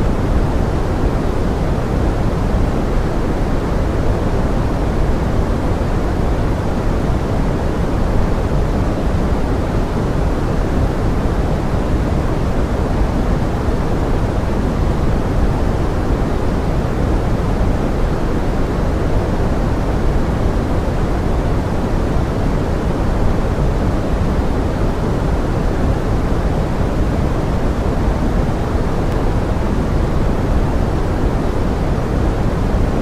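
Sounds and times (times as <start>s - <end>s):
pink noise rain hiss: 0.0s - 33.0s.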